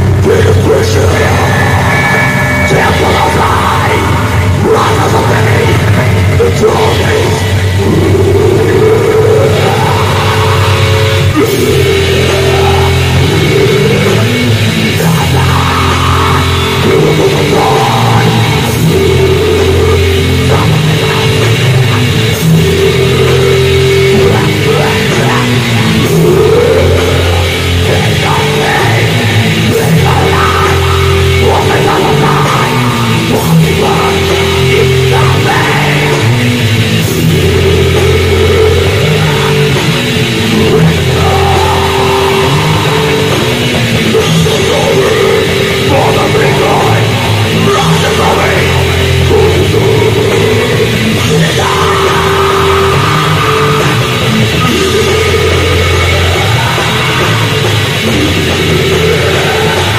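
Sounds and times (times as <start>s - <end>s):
death metal with harsh noise: 0.0s - 59.9s.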